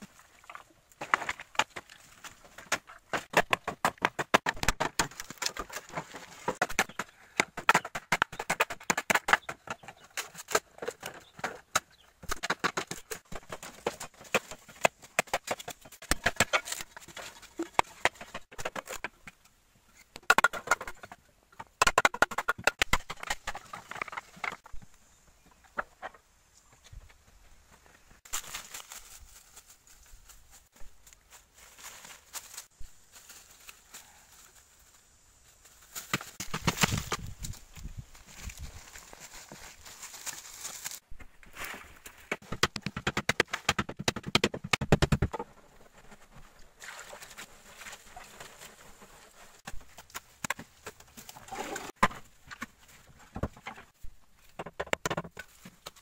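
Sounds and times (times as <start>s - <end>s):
bamboo poles clacking and cracking: 0.0s - 35.0s, 35.6s - 56.0s.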